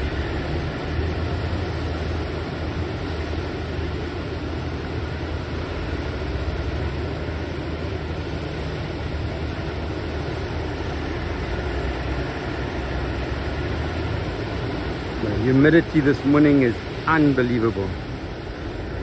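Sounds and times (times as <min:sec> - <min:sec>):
outboard engines running: 0:00.0 - 0:19.0
rushing water noise: 0:00.0 - 0:19.0.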